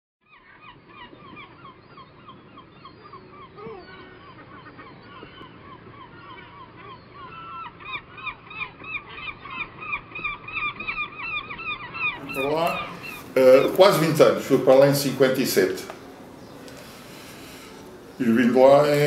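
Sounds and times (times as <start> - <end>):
seagulls calling: 0.2 - 19.0.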